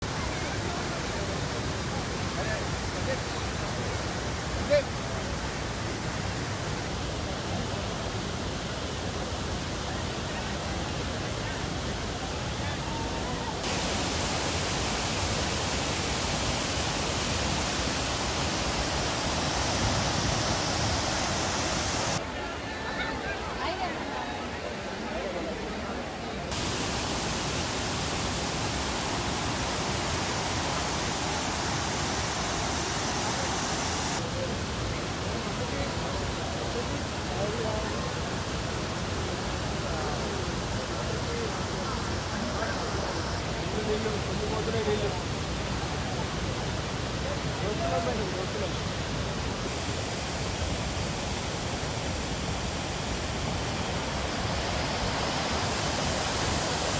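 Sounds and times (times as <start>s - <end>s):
waterfall rushing: 0.0s - 22.7s, 23.4s - 56.9s.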